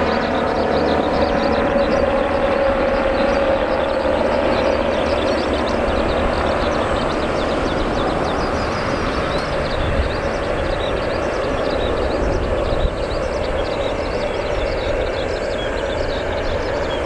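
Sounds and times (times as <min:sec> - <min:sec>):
jet engines humming: 0:00.0 - 0:17.0.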